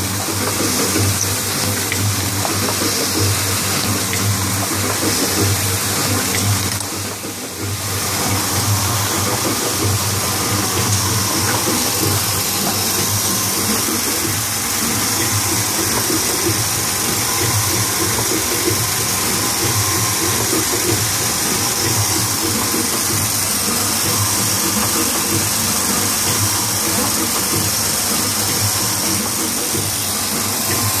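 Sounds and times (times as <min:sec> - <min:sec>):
press machine hum and pulse: 0:00.0 - 0:31.0
strong high hiss: 0:00.0 - 0:31.0.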